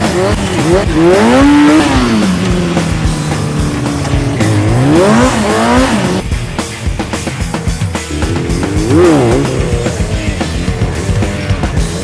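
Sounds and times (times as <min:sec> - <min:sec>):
motorcycle engine revving: 0:00.0 - 0:12.0
music with a beat: 0:00.0 - 0:12.0.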